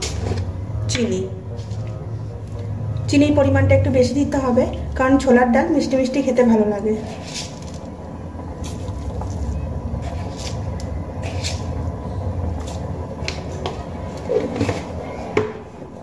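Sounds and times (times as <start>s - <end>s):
steady low rumble: 0.0s - 14.3s.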